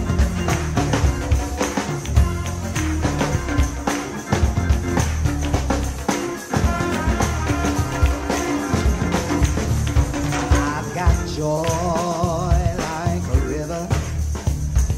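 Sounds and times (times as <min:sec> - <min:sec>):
live gospel band music: 0:00.0 - 0:14.9
steady drum beat: 0:00.0 - 0:14.9.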